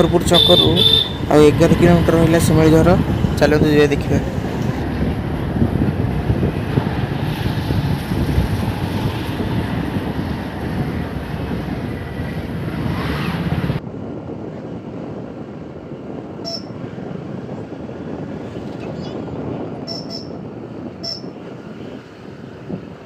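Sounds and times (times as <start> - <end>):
vehicle road noise: 0.0 - 23.0
wind buffeting microphone: 0.0 - 23.0.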